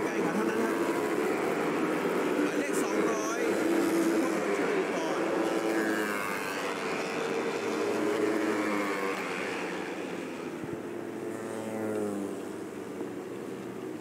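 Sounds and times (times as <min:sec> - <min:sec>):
racing motorcycles at high revs: 0:00.0 - 0:14.0.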